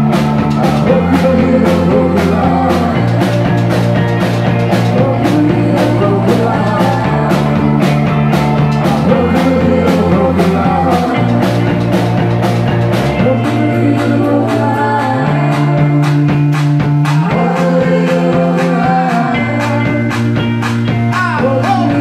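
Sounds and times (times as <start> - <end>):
bass guitar: 0.0 - 22.0
drum beat: 0.0 - 22.0
electric guitars: 0.0 - 22.0
keyboard: 0.0 - 22.0.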